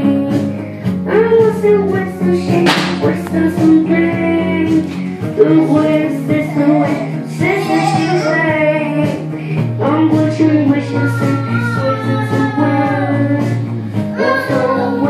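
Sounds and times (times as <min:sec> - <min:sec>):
boy singing into a microphone: 0:00.0 - 0:15.0
instrumental backing music: 0:00.0 - 0:15.0.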